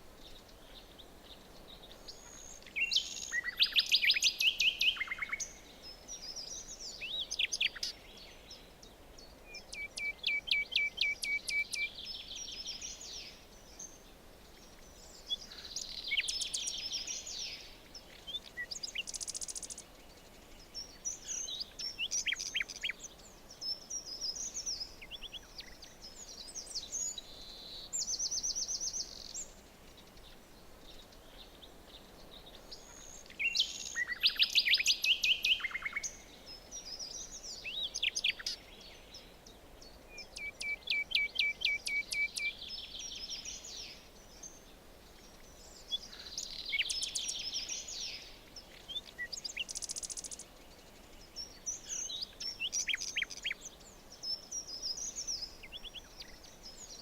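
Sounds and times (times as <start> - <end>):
faint steady background hiss: 0.0 - 57.0
songbirds singing: 0.0 - 57.0.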